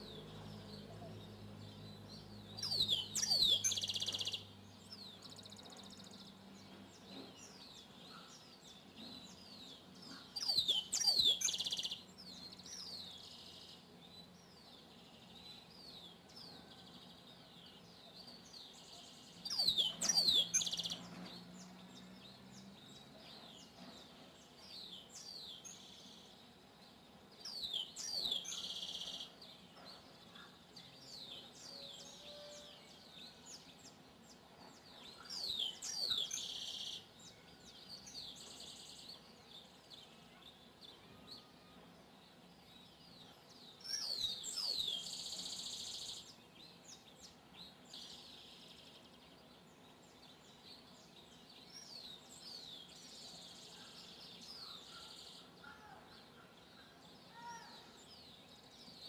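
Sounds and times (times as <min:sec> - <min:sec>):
bird song with buzzy trill: 0:00.0 - 0:59.0
faint bird chirps: 0:00.0 - 0:59.0.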